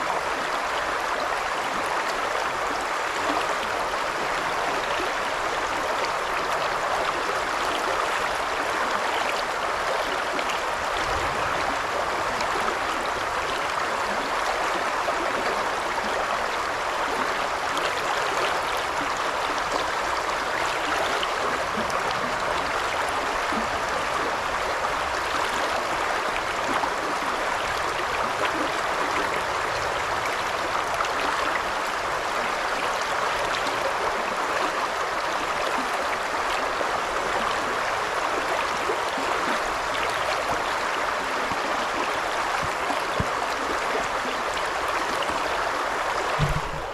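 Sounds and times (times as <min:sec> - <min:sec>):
river babbling: 0:00.0 - 0:46.9.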